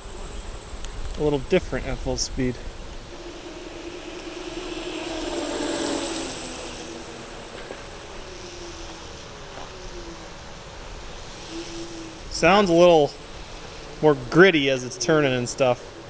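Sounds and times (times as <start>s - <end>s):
electric scooter motor whine: 0.0s - 16.0s
gritty tire hiss: 0.0s - 16.0s.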